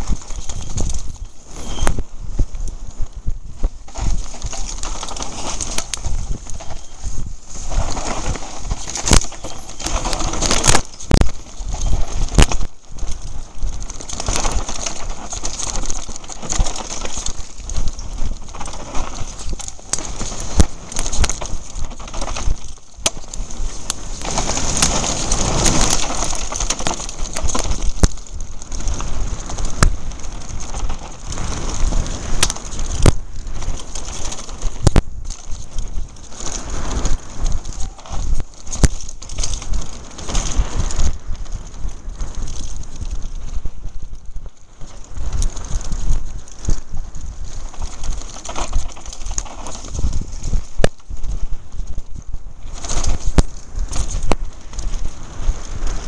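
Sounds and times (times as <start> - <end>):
tyres on dirt: 0.0 - 3.0, 3.6 - 56.0
bike clattering over rough trail: 0.0 - 56.0.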